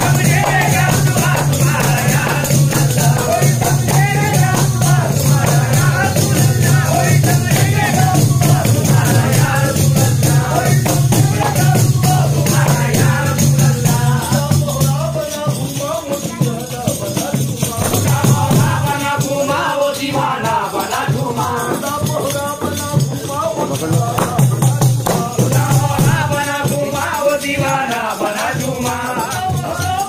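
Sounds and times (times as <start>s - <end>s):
frame drums beating: 0.0s - 30.0s
men chanting together: 0.0s - 30.0s.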